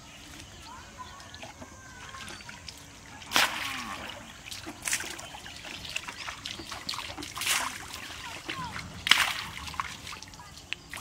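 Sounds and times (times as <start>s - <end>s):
water splashing: 0.0s - 11.0s
water trickling: 0.0s - 11.0s.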